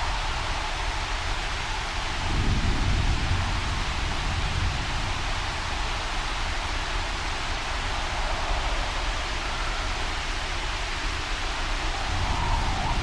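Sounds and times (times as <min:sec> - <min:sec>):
wind and rain hiss: 0:00.0 - 0:13.0.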